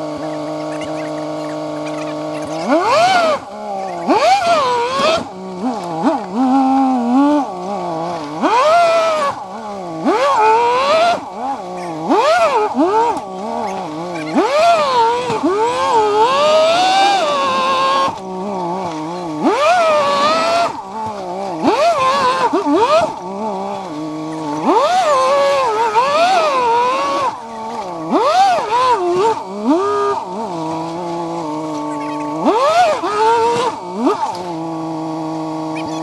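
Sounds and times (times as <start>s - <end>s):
engine idling and revving: 0.0s - 36.0s.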